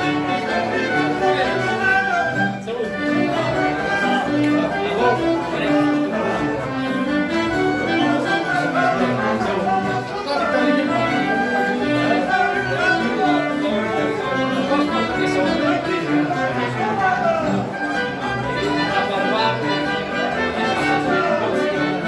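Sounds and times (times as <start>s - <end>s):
folk band playing dance tune: 0.0s - 22.0s.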